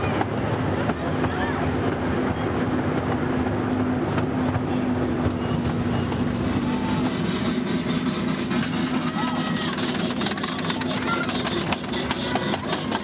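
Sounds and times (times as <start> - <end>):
rattle of train wheels: 0.0 - 13.0.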